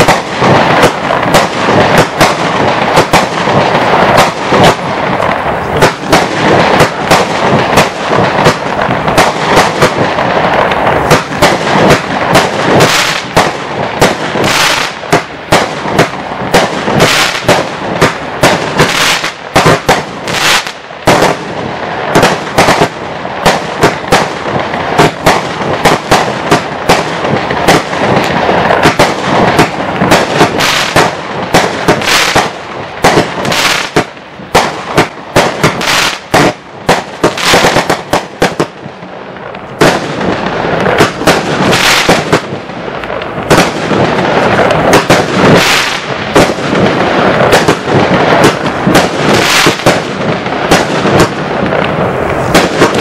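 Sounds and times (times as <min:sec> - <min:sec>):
fireworks shots and bursts: 0:00.0 - 0:53.0.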